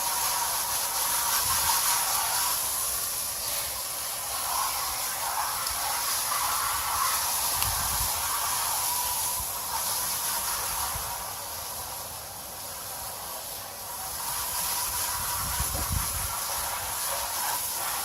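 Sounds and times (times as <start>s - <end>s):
hose spraying water: 0.0s - 18.0s.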